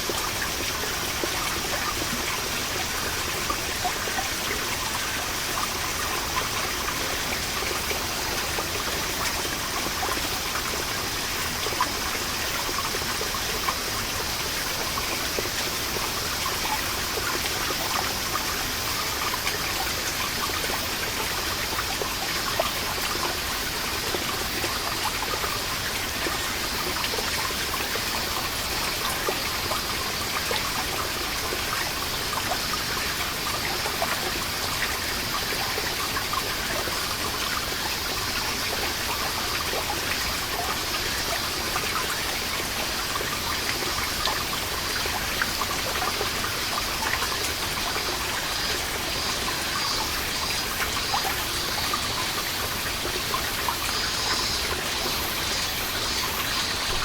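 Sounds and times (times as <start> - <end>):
water dripping and trickling: 0.0 - 57.0
cicadas droning: 0.4 - 57.0.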